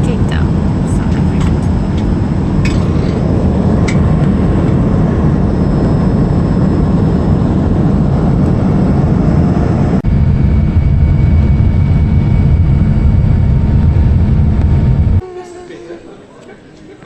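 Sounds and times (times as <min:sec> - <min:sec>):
rushing air: 0:00.0 - 0:15.2
plane engines rumbling: 0:00.0 - 0:17.0.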